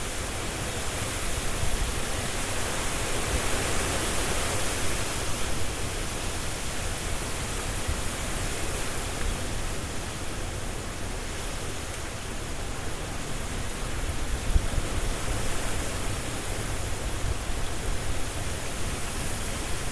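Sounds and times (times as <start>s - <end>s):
wind rustling tree leaves: 0.0s - 19.9s.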